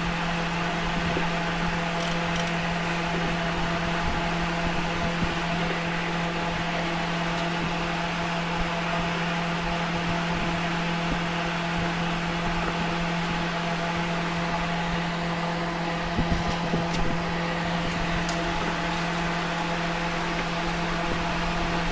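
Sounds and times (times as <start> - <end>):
steady machine hum: 0.0 - 21.9.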